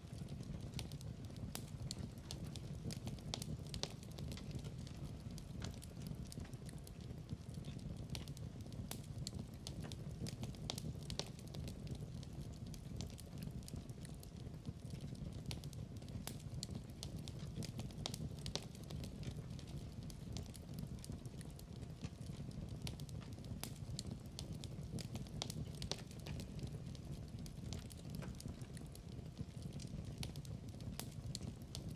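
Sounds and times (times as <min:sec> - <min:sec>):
fire crackling: 0:00.0 - 0:31.9
low rumble of flames: 0:00.0 - 0:31.9.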